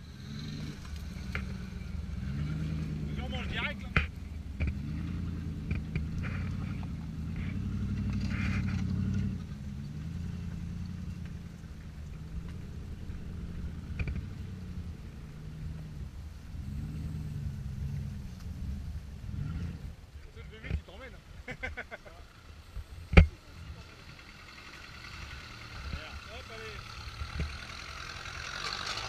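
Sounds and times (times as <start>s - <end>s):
car engine revving under load: 0.0s - 21.2s, 22.2s - 29.0s.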